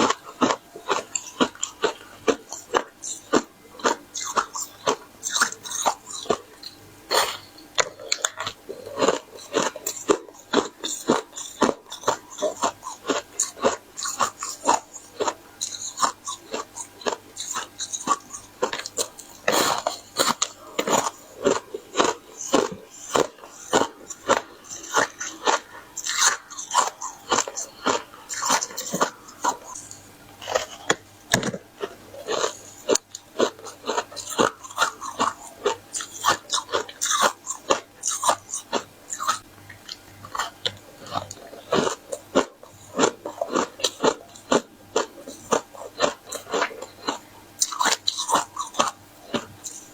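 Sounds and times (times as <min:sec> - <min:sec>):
crunchy biting and chewing: 0:00.0 - 0:49.9.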